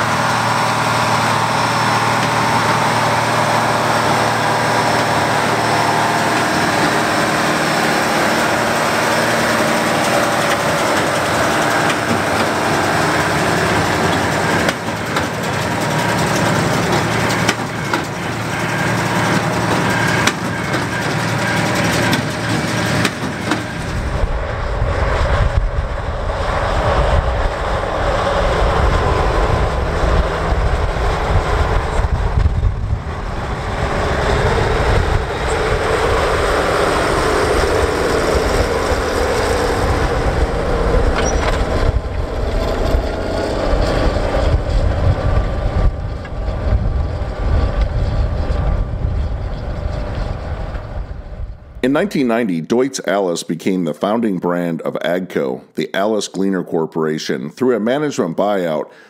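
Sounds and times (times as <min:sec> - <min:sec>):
tractor diesel engine under load: 0:00.0 - 0:56.2, 0:56.8 - 0:59.0.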